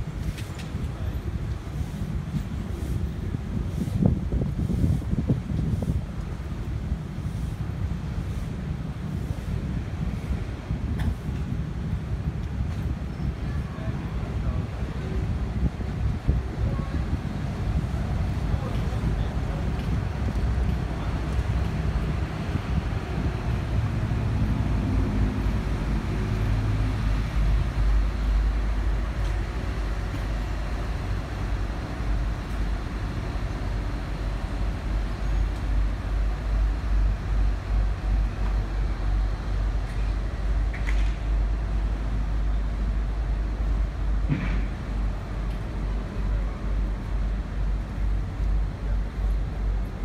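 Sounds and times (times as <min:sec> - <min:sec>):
boat diesel engine humming: 0:00.0 - 0:50.0
wind buffeting microphone: 0:00.0 - 0:50.0.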